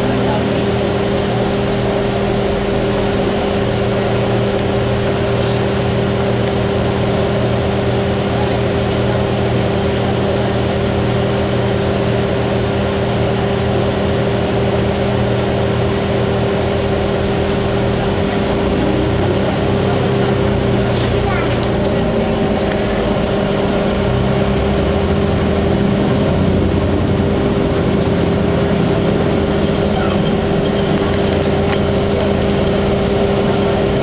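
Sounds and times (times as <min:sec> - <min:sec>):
bus engine humming: 0:00.0 - 0:34.0.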